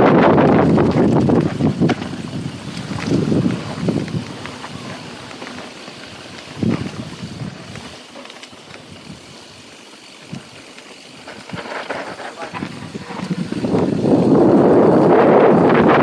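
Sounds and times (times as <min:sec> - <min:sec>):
bike clicks and rattles: 0:00.0 - 0:16.0
tyre and wind rush: 0:00.0 - 0:16.0.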